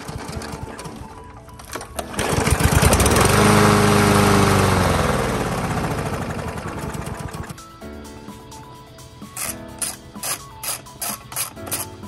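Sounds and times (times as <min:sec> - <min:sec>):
lawn mower engine starting and running: 0:00.0 - 0:08.3, 0:09.3 - 0:12.0.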